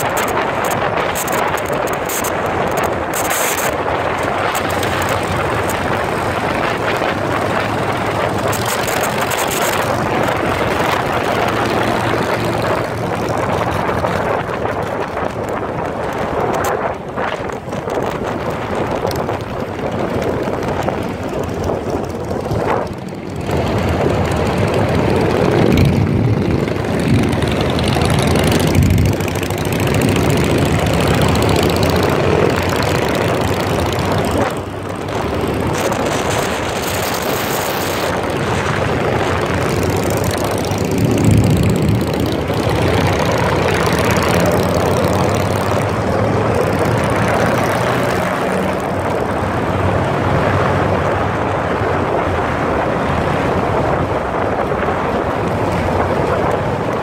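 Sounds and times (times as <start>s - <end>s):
motorcycle engines running: 0.0s - 57.0s
road and wind noise: 0.0s - 57.0s.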